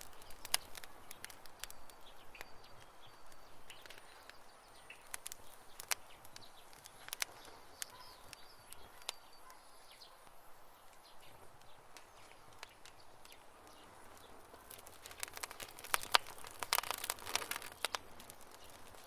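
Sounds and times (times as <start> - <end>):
campfire wood crackling: 0.0 - 19.0
soft fire hiss: 0.0 - 19.0.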